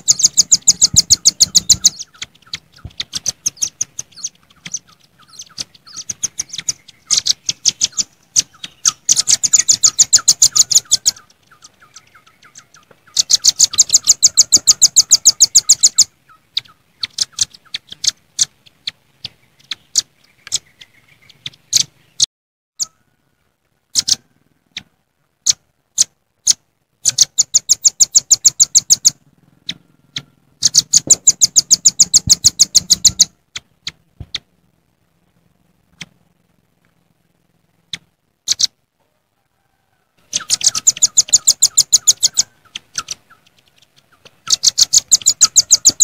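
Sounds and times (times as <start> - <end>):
nuthatches rattling chip calls: 0.0 - 23.0, 23.9 - 24.2, 25.4 - 34.0, 37.9 - 38.8, 40.3 - 46.0.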